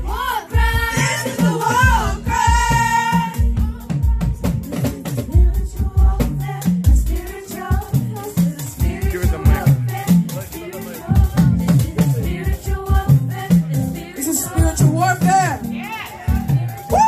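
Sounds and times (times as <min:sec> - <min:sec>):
song with heavy bass beat: 0:00.0 - 0:17.0.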